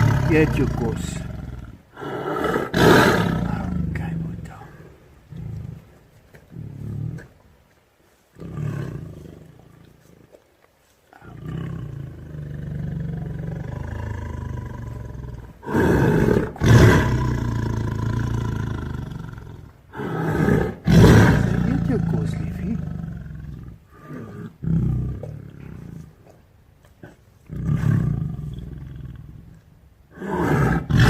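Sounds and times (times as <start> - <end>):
tiger rumbling growl: 0.0 - 7.6, 8.3 - 10.4, 11.1 - 31.0.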